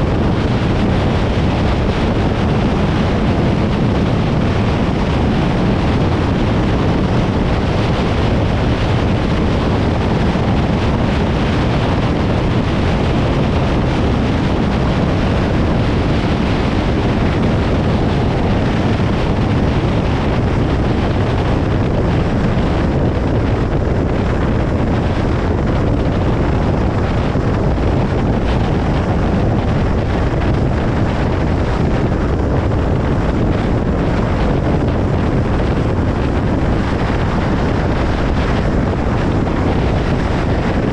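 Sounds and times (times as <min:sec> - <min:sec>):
car road and tyre noise: 0:00.0 - 0:40.9.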